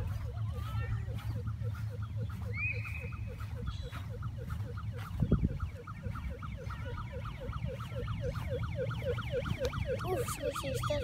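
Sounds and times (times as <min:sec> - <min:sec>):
toy siren warbling yelp: 0:00.0 - 0:11.0.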